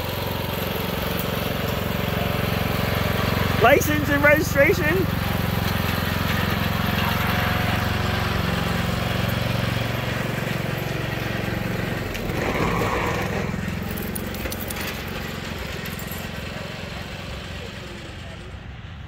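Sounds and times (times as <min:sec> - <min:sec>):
riding lawn mower engine: 0:00.0 - 0:19.0.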